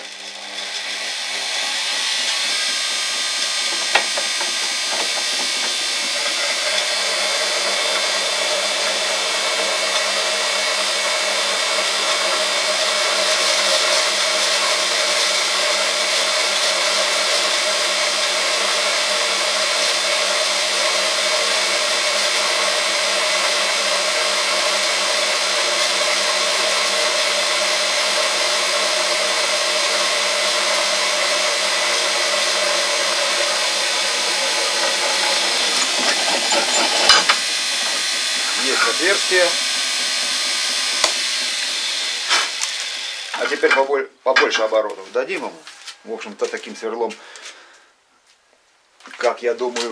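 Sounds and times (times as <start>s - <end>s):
drill press motor: 0.0s - 43.8s
drill bit cutting steel: 0.0s - 44.8s.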